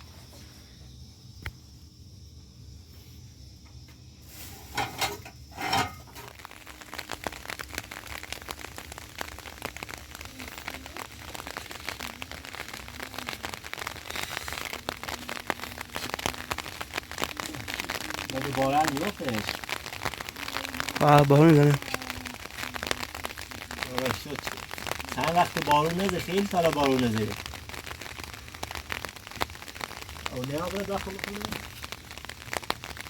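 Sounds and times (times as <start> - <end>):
rain pattering on a surface: 4.3 - 33.0.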